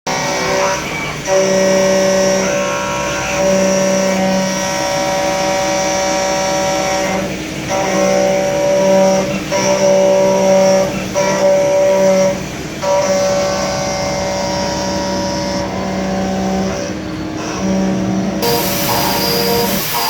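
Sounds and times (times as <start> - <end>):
milling machine spindle whining: 0.1 - 20.0.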